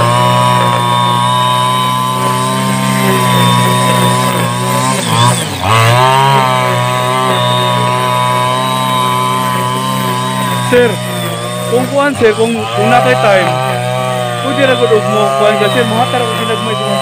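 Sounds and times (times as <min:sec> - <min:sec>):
brush cutter cutting grass: 0:00.0 - 0:17.0.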